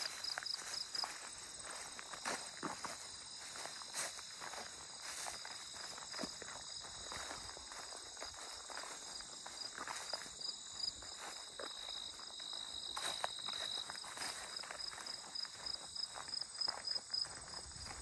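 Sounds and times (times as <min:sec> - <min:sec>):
crickets trilling: 0:00.0 - 0:18.0
footsteps on grassy path: 0:00.0 - 0:18.0.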